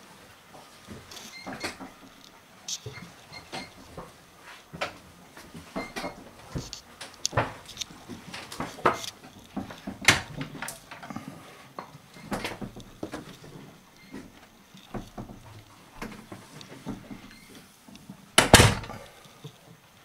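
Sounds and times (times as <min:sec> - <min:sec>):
knocks and clicks in wooden cabin: 0:00.9 - 0:04.1, 0:04.7 - 0:11.2, 0:11.8 - 0:19.2.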